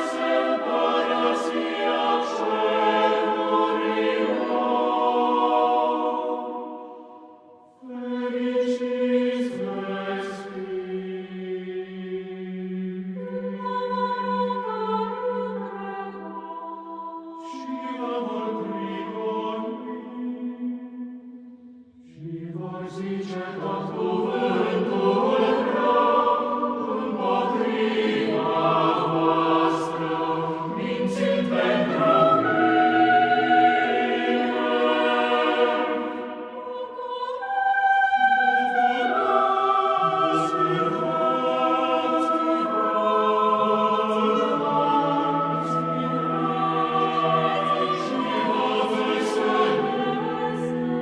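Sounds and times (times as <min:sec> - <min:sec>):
choir singing: 0:00.0 - 0:51.0.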